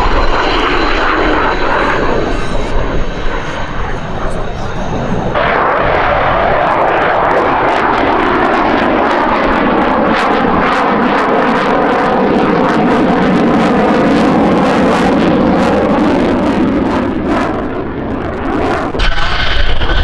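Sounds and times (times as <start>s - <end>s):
fighter jet engine roar: 0.0s - 20.0s.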